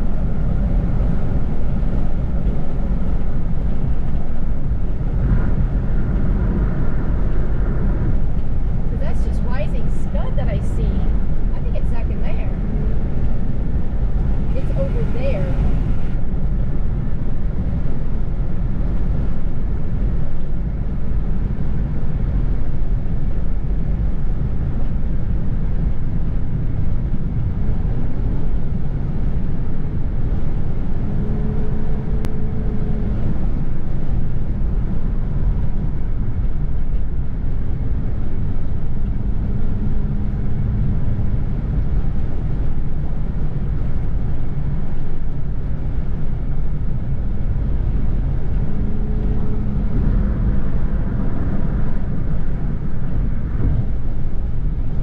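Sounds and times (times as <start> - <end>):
road and engine rumble in car: 0.0 - 55.0.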